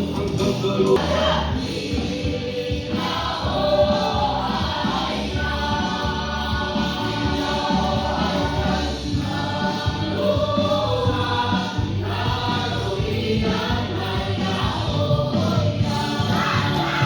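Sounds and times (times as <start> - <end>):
musical accompaniment: 0.0 - 17.0
group singing in chorus: 0.9 - 17.0.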